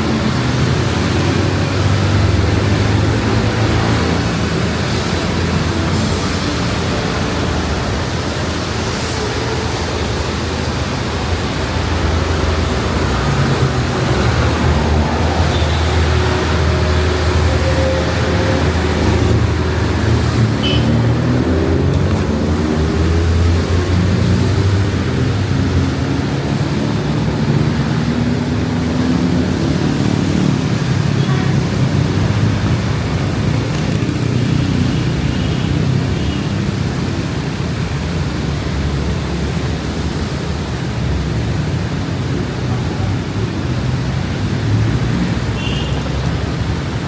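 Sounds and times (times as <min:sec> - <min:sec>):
heavy rain hissing: 0:00.0 - 0:47.0.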